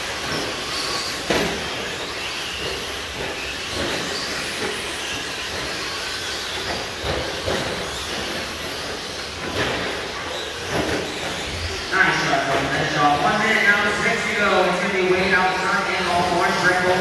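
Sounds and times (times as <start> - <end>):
toy truck motors whining: 0.0 - 17.0.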